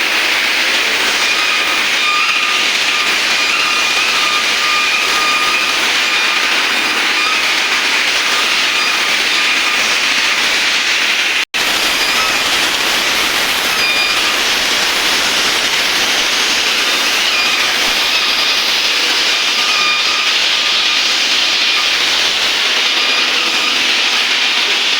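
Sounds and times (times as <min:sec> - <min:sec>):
cnc machine cutting steel: 0:00.0 - 0:24.9.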